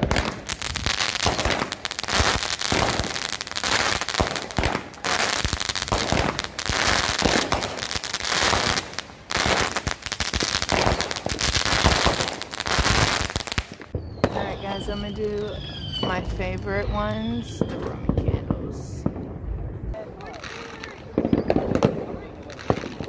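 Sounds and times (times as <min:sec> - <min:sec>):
fireworks crackling pops: 0:00.0 - 0:16.7, 0:20.2 - 0:23.0.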